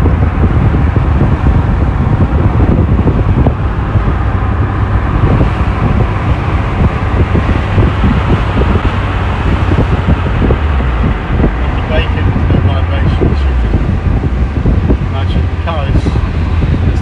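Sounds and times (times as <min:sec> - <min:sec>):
car engine running: 0:00.0 - 0:17.0
wind noise: 0:00.0 - 0:17.0.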